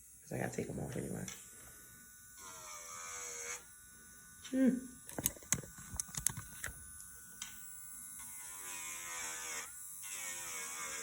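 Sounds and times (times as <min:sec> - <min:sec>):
electric nail drill whine: 0:00.0 - 0:11.0.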